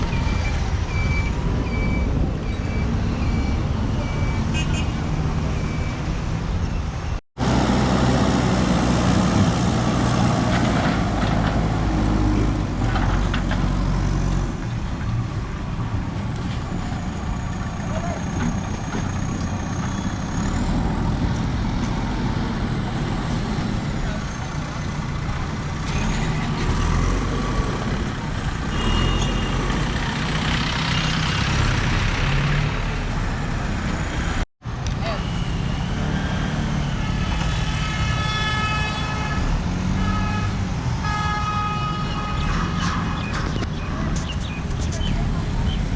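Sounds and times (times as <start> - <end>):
highway traffic rumble: 0.0 - 45.9.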